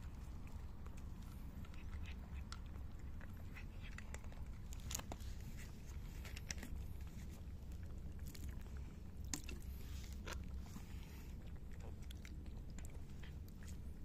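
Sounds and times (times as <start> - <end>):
cats crunching dry kibble: 0.0 - 14.0.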